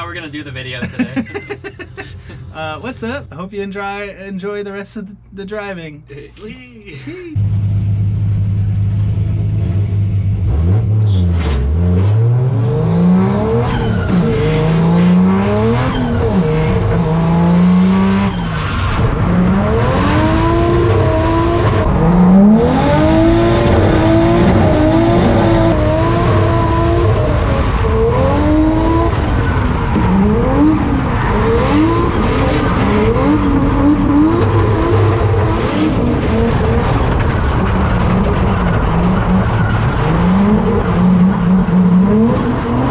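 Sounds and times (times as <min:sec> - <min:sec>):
car engine revving: 0:07.4 - 0:42.9.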